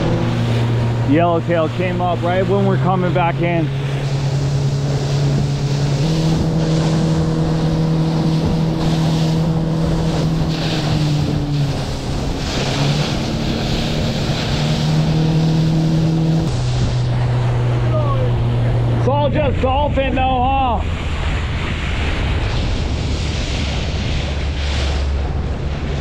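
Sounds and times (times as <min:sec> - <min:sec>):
boat motor running: 0:00.0 - 0:26.0
water rushing past hull: 0:00.0 - 0:26.0
wind on microphone: 0:00.0 - 0:26.0.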